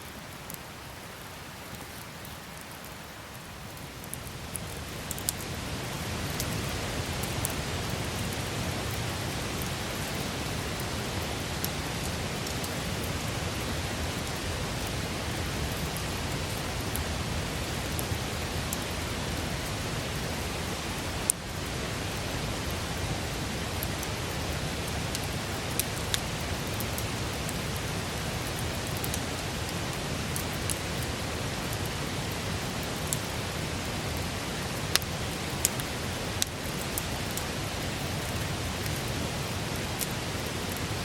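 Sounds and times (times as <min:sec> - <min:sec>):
campfire crackling and popping: 0:00.0 - 0:33.4, 0:34.1 - 0:41.0.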